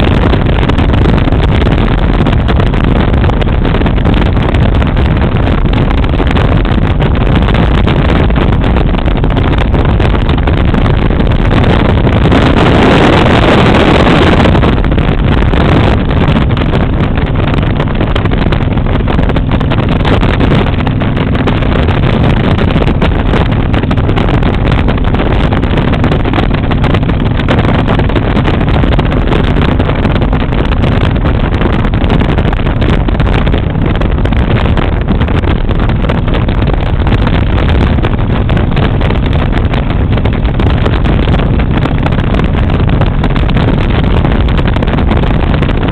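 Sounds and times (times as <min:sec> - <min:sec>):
motorcycle engine running: 0:00.0 - 0:45.9
wind buffeting microphone: 0:00.0 - 0:45.9.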